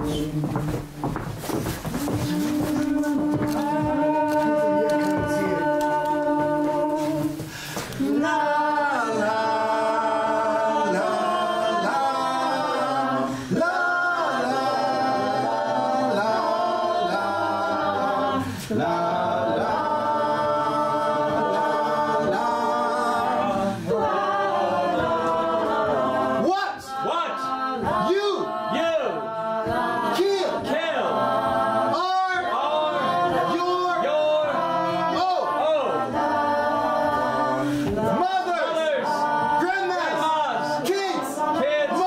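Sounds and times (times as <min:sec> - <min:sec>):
choir singing a cappella: 0:00.0 - 0:42.0.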